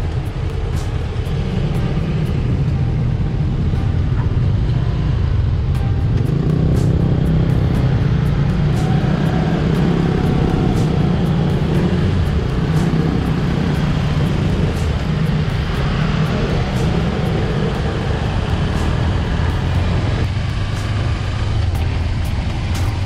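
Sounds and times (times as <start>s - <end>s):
city traffic: 0.0s - 23.0s
motorbike engine: 0.0s - 23.0s.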